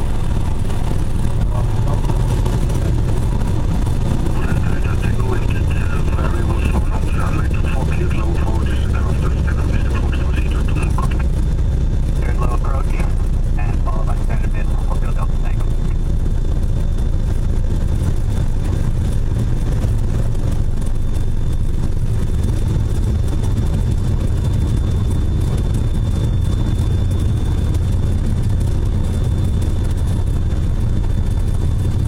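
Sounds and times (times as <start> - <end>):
aircraft engine cabin drone: 0.0 - 32.0.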